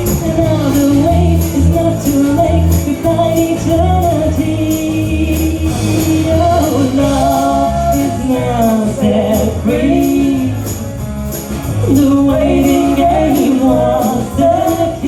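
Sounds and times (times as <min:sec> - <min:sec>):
bass line: 0:00.0 - 0:15.0
high percussion beat: 0:00.0 - 0:15.0.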